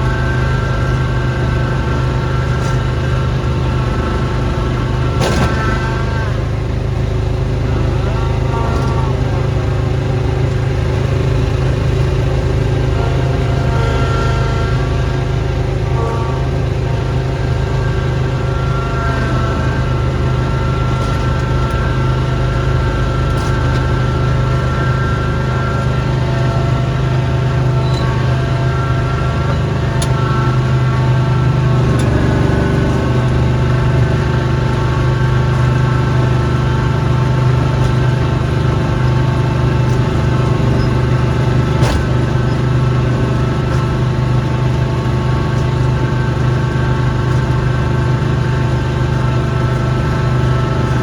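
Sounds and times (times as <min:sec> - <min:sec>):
snowblower engine running: 0:00.0 - 0:51.0.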